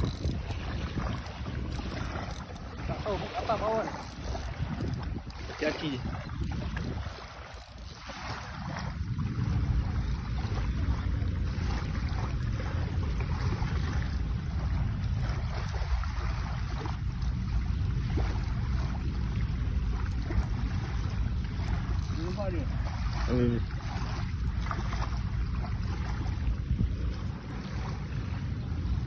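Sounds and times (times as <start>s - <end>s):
wind blowing across microphone: 0.0s - 29.0s.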